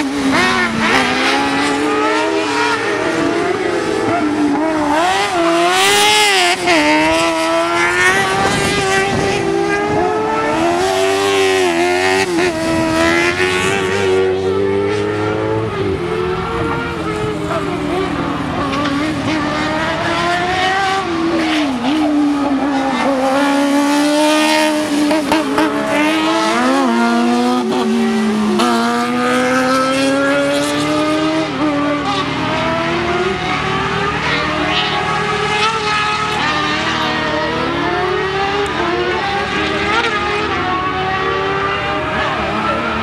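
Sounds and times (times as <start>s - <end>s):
buggy engine revving: 0.0s - 43.0s.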